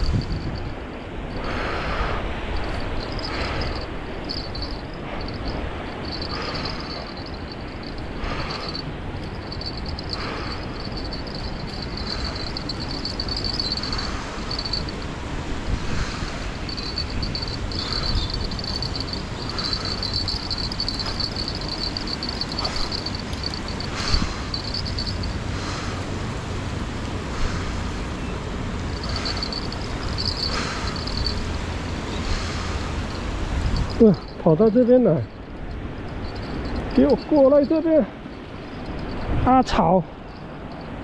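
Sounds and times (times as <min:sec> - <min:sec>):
high thin buzzing: 0:00.0 - 0:25.9, 0:28.8 - 0:39.4
wind buffeting microphone: 0:00.0 - 0:39.6.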